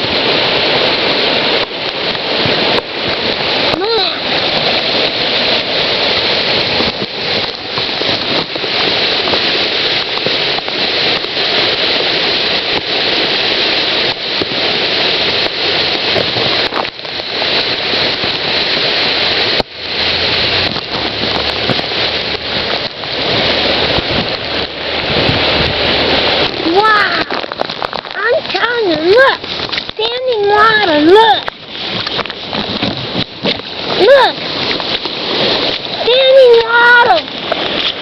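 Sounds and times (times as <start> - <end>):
floodwater rushing: 0.0 - 38.0.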